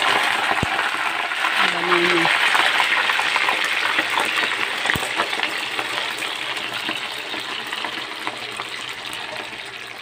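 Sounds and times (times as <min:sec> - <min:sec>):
deep-frying sizzle with crackles: 0:00.0 - 0:10.0.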